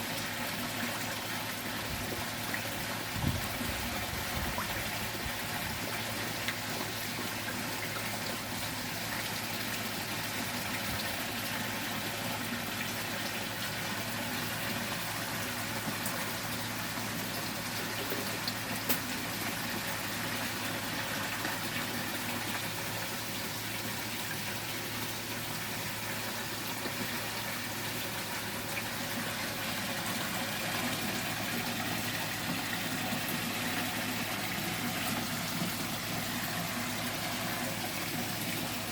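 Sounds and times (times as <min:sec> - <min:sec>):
water running and splashing: 0:00.2 - 0:38.9.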